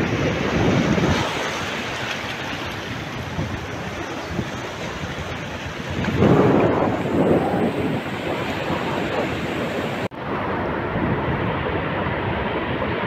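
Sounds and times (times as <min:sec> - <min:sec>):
surf washing: 0:00.0 - 0:13.0
wind rumbling on microphone: 0:00.0 - 0:13.0.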